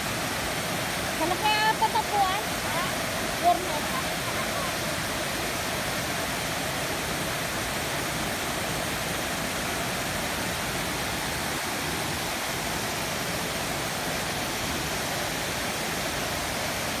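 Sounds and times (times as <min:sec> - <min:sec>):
water cascade splashing into pool: 0:00.0 - 0:17.0.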